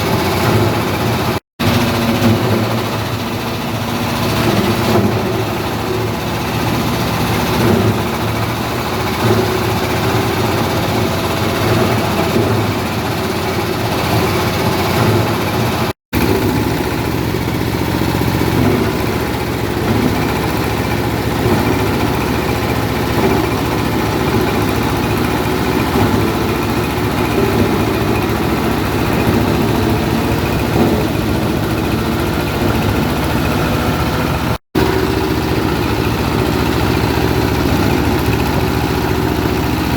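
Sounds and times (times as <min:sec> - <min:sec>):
grinding machine droning and churning: 0:00.0 - 0:39.9.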